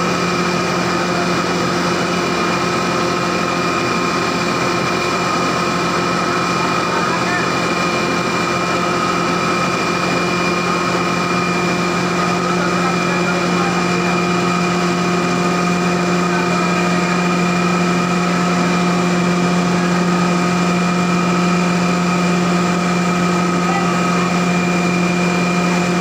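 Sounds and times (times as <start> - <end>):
grinding machine hum: 0.0 - 26.0.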